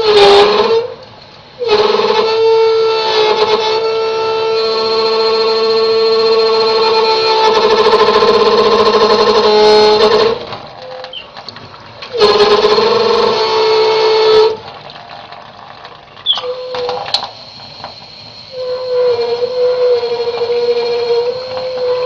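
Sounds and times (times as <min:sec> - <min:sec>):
water tap wavering tone: 0:00.0 - 0:22.0.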